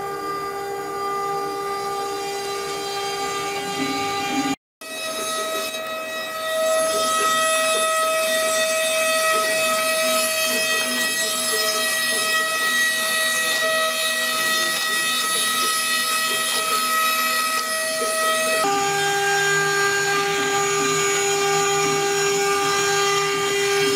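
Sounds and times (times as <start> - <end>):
bit milling wood: 0.0 - 23.9
router spindle whining: 0.0 - 23.9.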